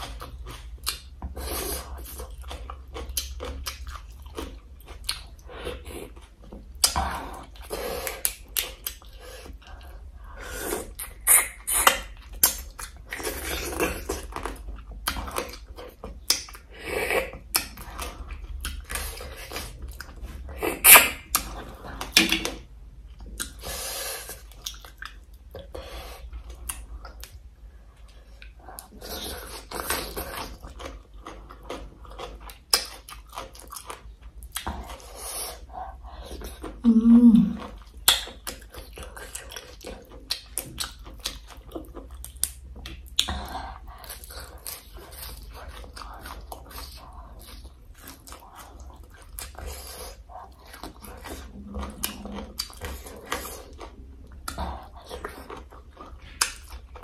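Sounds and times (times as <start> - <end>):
chewing and lip smacking: 0.0 - 57.0.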